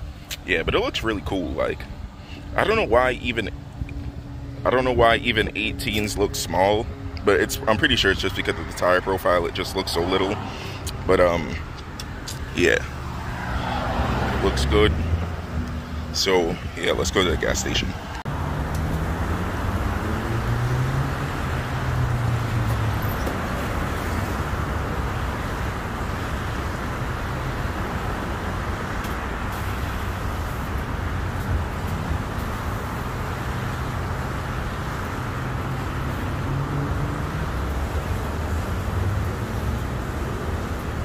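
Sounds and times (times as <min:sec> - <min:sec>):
traffic: 0:00.0 - 0:41.0
low engine hum: 0:01.0 - 0:41.0.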